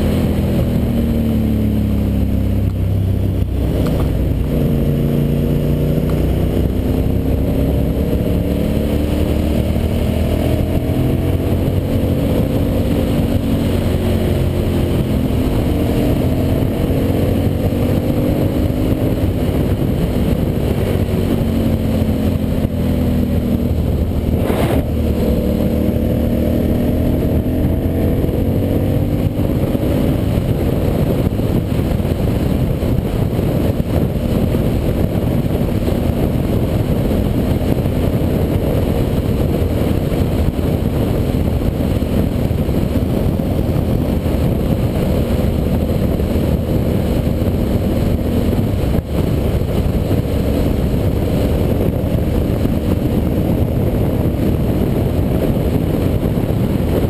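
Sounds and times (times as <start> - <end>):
motorcycle engine accelerating: 0.0 - 57.0
road noise: 0.0 - 57.0.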